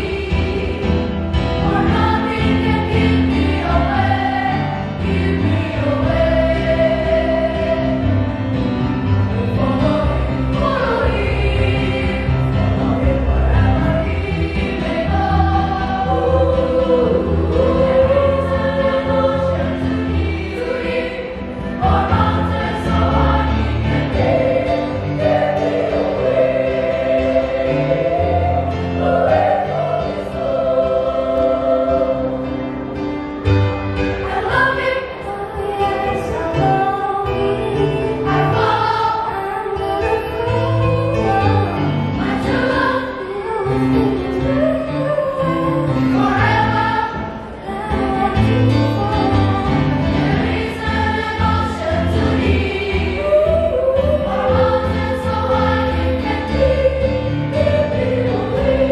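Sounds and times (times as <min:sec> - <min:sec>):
children's choir singing: 0:00.0 - 0:08.3, 0:09.3 - 0:58.9.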